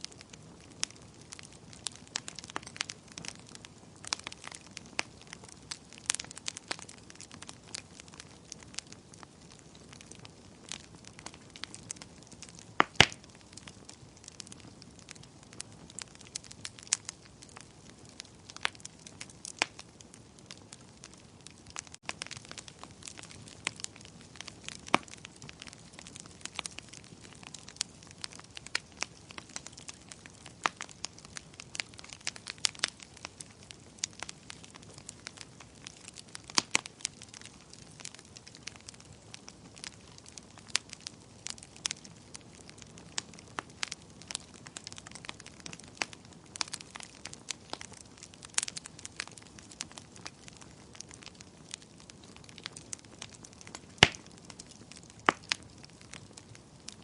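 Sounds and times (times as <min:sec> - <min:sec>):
fire crackling with pops: 0:00.0 - 0:57.0.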